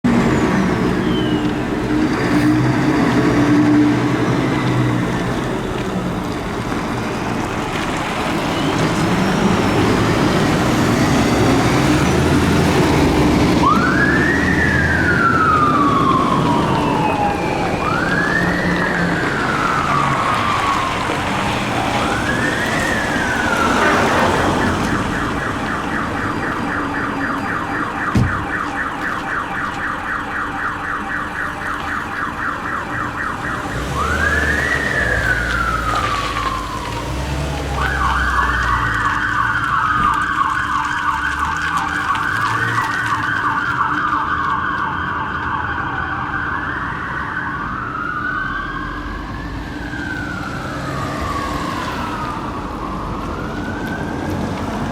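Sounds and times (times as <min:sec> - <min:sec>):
fire engine siren: 0:00.0 - 0:54.9
truck engine rumbling: 0:00.0 - 0:54.9.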